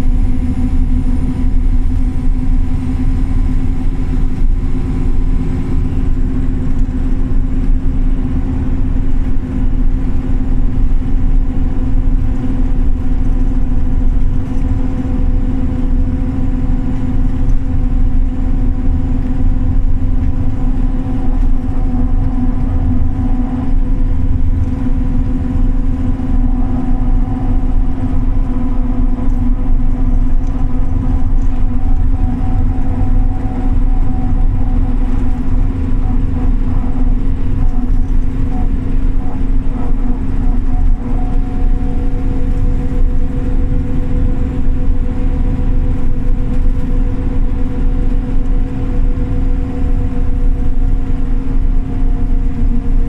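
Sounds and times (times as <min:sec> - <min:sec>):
bus engine drone: 0:00.0 - 0:53.0
constant hum: 0:00.0 - 0:53.0
road rumble: 0:00.0 - 0:53.0.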